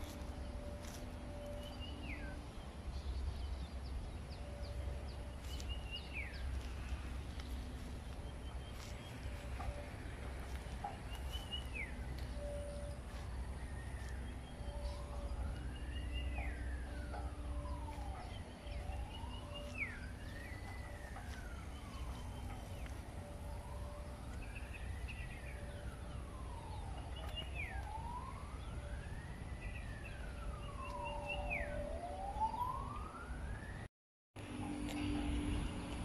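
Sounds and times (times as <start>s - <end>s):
siren wailing: 0.0s - 3.0s, 3.7s - 36.0s.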